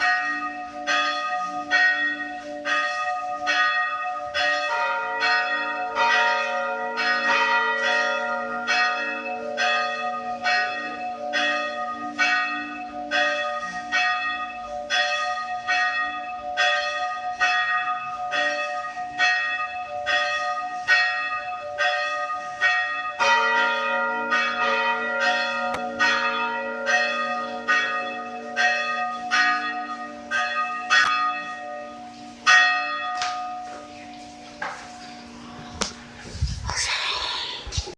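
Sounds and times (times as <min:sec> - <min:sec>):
church bells tolling: 0:00.0 - 0:36.2.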